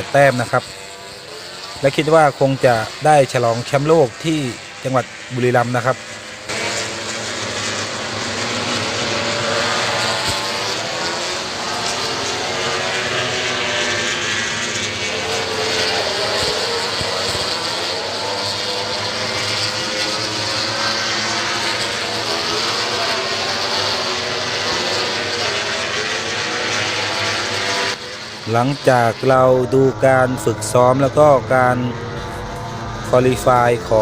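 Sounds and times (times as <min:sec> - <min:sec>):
racing motorcycle engines: 0:00.0 - 0:34.0.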